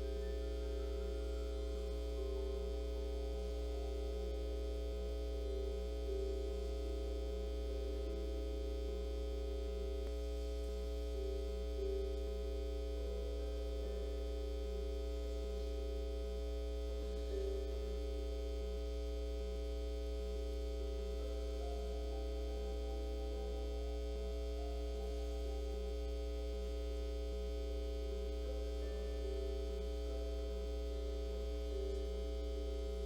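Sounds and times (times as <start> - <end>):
faint pulsing: 0.0 - 33.0
low electrical hum: 0.0 - 33.0.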